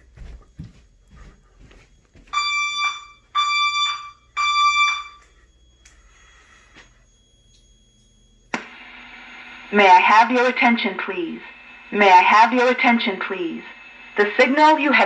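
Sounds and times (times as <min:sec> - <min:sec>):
fire alarm tones: 0:00.0 - 0:15.0.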